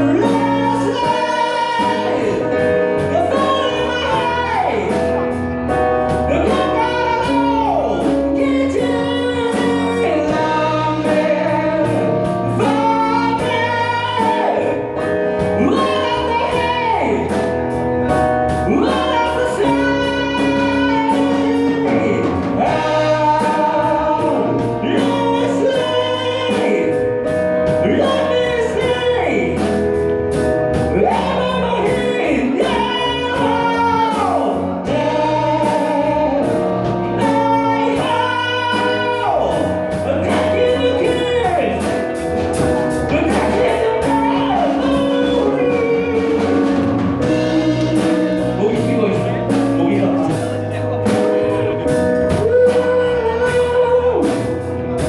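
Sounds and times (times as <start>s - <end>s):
person singing with vibrato: 0.0s - 55.0s
rock band playing: 0.0s - 55.0s.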